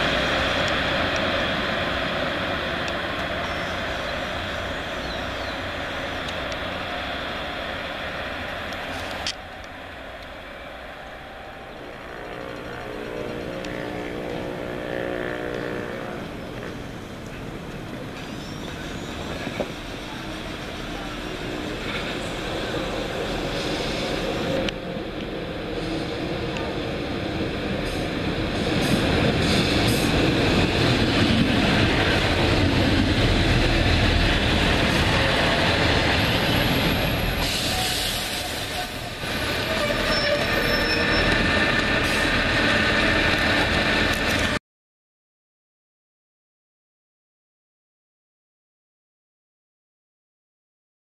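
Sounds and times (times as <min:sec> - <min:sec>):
diesel train engine hum: 0:00.0 - 0:44.6.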